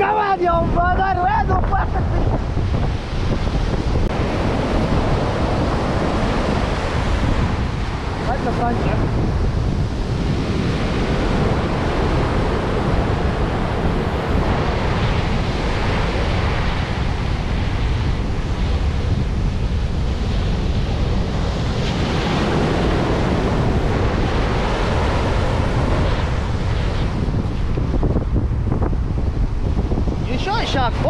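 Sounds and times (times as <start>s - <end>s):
breaking surf: 0.0s - 31.0s
wind on microphone: 0.0s - 31.0s.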